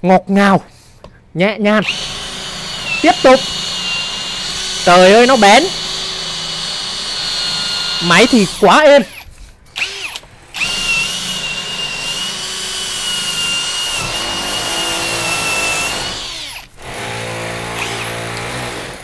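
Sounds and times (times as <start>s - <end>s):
cordless drill boring into wood: 1.8s - 19.0s.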